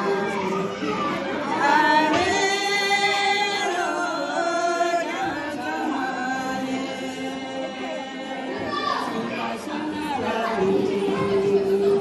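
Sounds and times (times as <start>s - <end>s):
women singing together unaccompanied: 0.0s - 12.0s.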